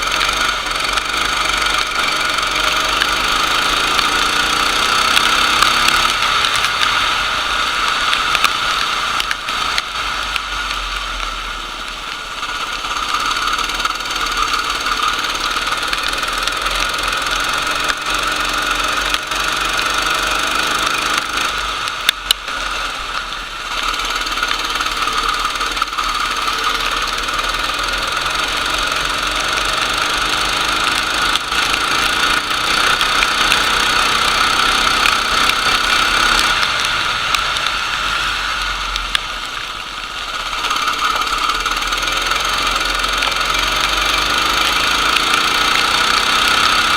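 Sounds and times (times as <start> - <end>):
sharp clicks: 0.0 - 11.4, 12.1 - 22.6, 23.2 - 46.9
go-kart engine running: 0.0 - 46.9.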